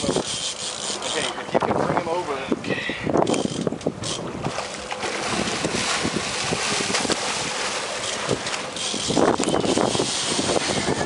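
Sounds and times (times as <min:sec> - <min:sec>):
sea water splashing along hull: 0:00.0 - 0:11.0
wind buffeting microphone: 0:01.4 - 0:11.0.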